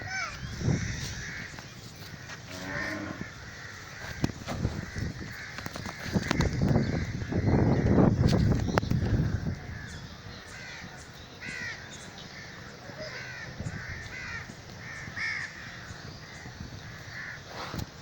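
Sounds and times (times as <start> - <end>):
birds calling harshly: 0.0 - 18.0.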